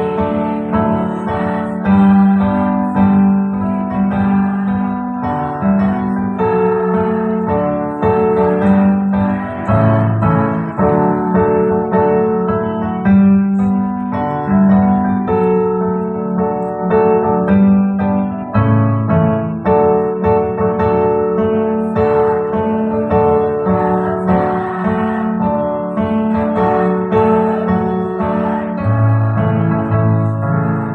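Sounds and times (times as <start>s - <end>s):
keyboard playing piano chords: 0.0s - 30.9s.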